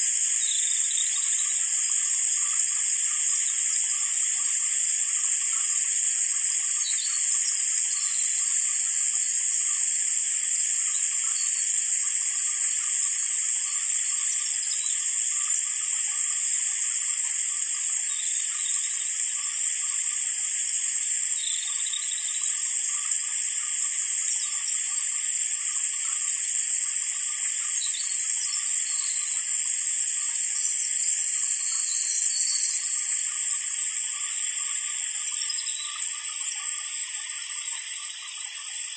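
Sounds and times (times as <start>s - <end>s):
light rain hissing: 0.0s - 38.9s.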